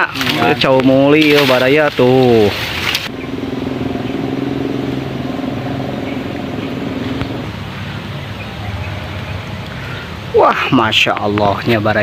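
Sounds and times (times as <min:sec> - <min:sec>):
engine humming: 0:00.0 - 0:10.4.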